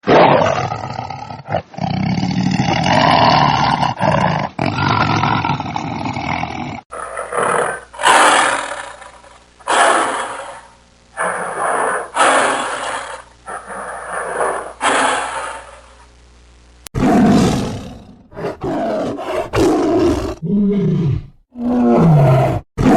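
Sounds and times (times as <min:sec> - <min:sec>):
tiger roaring: 0:00.0 - 0:15.9, 0:17.0 - 0:22.9.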